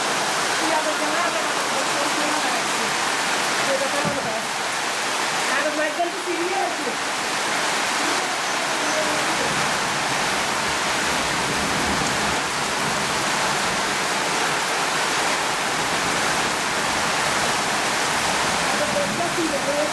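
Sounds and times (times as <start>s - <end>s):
steady rain: 0.0s - 19.9s.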